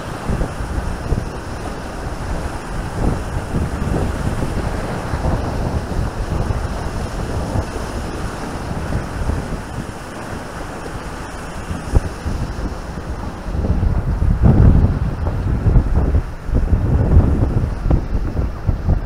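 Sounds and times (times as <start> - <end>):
waves washing: 0.0 - 19.0
wind buffeting microphone: 0.0 - 19.0.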